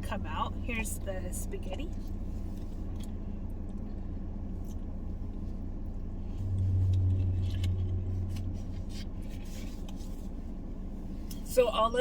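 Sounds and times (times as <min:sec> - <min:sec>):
car idling with air conditioning: 0:00.0 - 0:12.0.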